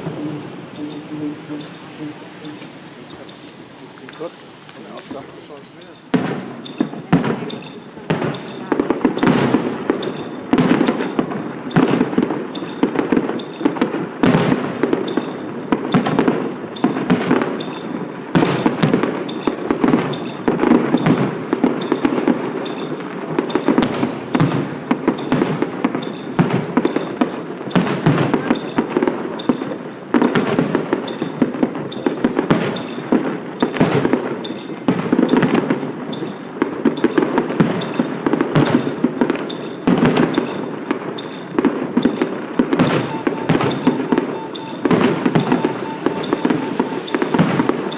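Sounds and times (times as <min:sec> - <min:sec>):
fireworks cracking and popping: 0:00.0 - 0:47.9
sharp firework bangs: 0:00.0 - 0:47.9.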